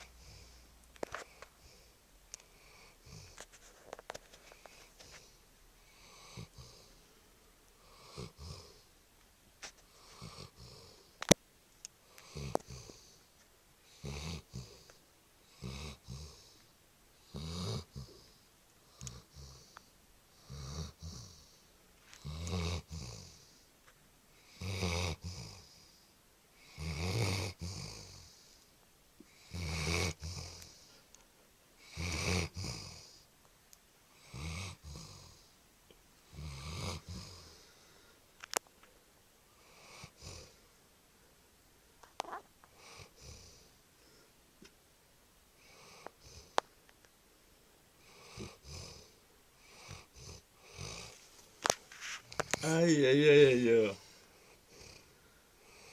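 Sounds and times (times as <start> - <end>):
dog snoring: 0.0 - 8.9, 9.6 - 11.4, 12.0 - 23.7, 24.3 - 28.6, 29.2 - 31.1, 31.8 - 33.3, 34.1 - 35.6, 36.2 - 38.6, 39.5 - 40.7, 42.1 - 44.3, 45.6 - 46.6, 48.0 - 55.9.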